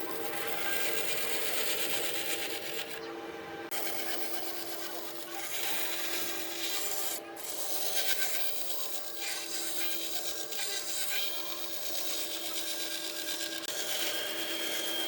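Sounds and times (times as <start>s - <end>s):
tool rasping wood: 0.0s - 3.0s, 3.7s - 15.0s.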